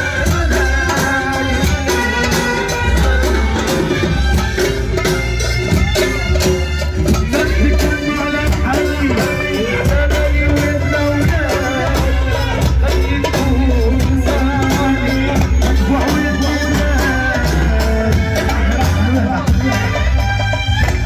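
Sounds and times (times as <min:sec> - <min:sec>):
amplified folk wedding music: 0:00.0 - 0:21.0.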